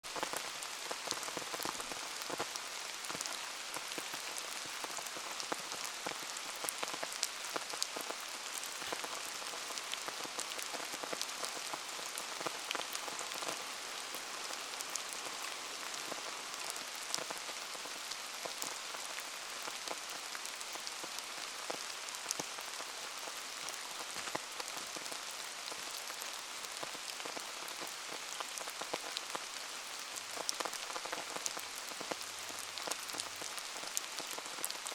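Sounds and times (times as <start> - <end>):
bonfire crackling and popping: 0.0 - 34.9
steady rain hiss: 0.0 - 34.9.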